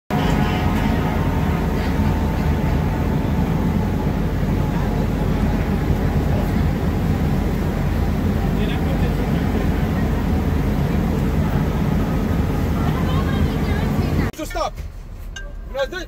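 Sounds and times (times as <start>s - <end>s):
crowd murmur: 0.1s - 14.3s
traffic rumble: 0.1s - 16.0s.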